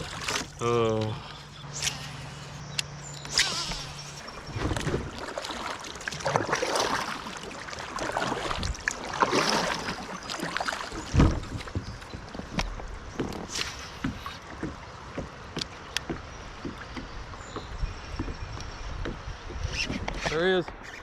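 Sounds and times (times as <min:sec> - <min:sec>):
paddle splashing in water: 0:00.0 - 0:02.5, 0:03.2 - 0:17.8.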